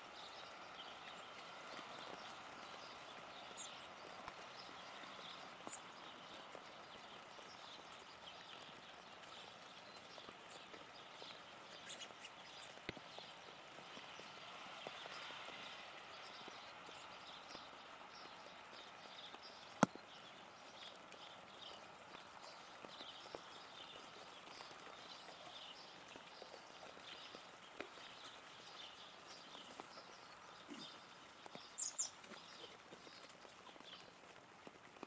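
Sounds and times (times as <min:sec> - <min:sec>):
drips and ticks: 0:00.0 - 0:35.0
faint rain: 0:00.0 - 0:35.0.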